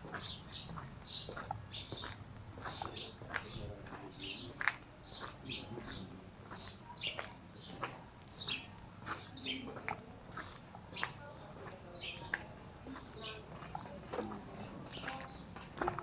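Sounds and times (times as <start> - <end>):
footsteps on concrete: 0.0 - 16.0
small birds chirping: 0.0 - 16.0.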